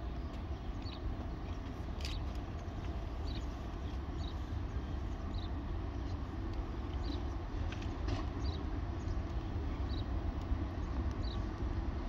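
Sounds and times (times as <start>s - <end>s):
distant locomotive rumbling: 0.0s - 12.0s.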